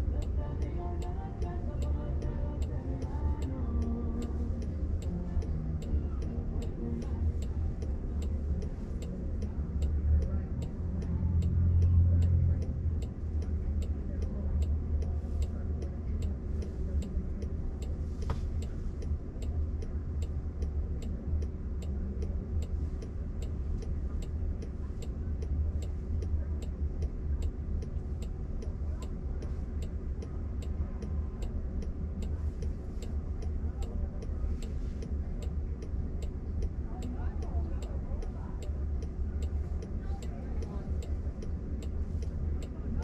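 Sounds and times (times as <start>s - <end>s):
low cabin rumble: 0.0s - 43.0s
turn signal ticking: 0.0s - 43.0s.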